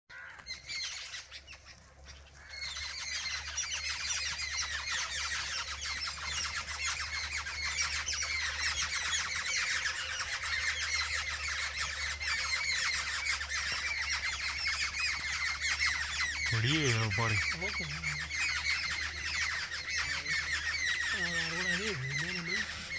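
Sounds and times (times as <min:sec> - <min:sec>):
chorus of birds chirping: 0:00.1 - 0:22.9.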